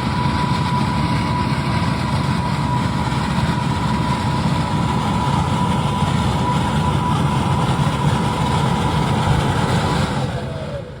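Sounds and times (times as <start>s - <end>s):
sprayer engine and fan rush: 0.0s - 11.0s
thin steady whine: 0.0s - 11.0s.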